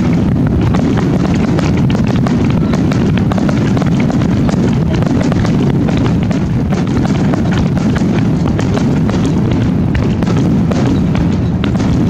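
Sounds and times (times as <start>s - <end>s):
firework pops and crackles: 0.0s - 12.0s
firework shells bursting: 0.0s - 12.0s.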